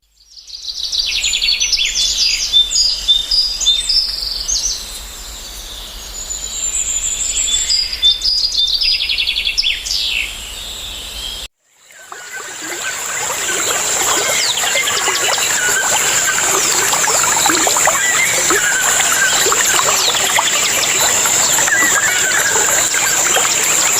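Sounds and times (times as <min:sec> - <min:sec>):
birds chirping and trilling: 0:01.0 - 0:23.9
forest ambience: 0:02.0 - 0:23.9.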